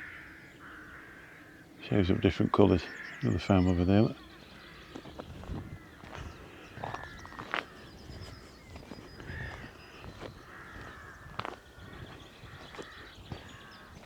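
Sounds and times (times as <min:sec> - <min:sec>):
crows cawing: 0:00.0 - 0:14.0.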